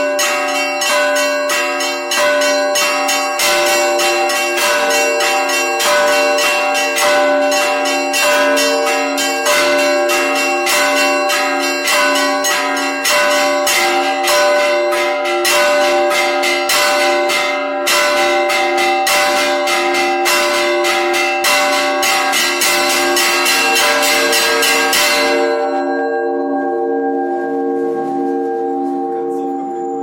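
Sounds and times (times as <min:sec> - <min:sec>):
small bells struck rapidly: 0:00.0 - 0:28.1
large bells ringing: 0:00.0 - 0:30.0.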